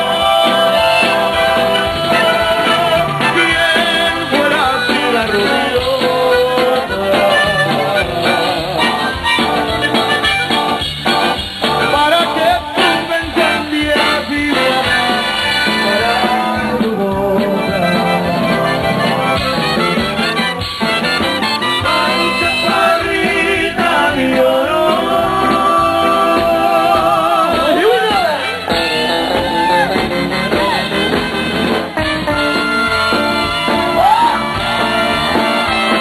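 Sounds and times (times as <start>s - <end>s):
accordion: 0.0s - 36.0s
live band playing: 0.0s - 36.0s
steady beat: 0.0s - 36.0s.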